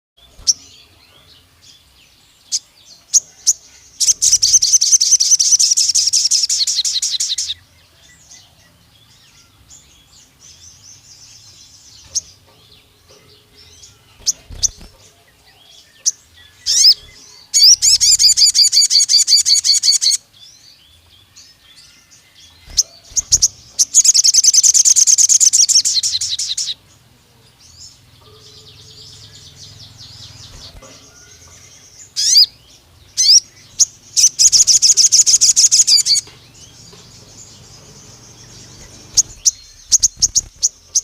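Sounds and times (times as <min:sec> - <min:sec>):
songbird chirping and trilling: 0:00.2 - 0:41.0.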